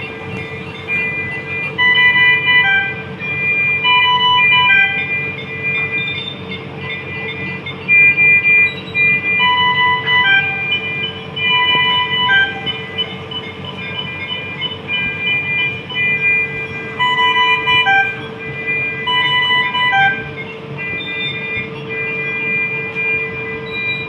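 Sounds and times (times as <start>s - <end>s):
electronic alarm beeps: 0.0s - 24.0s
steady hum: 0.0s - 24.0s.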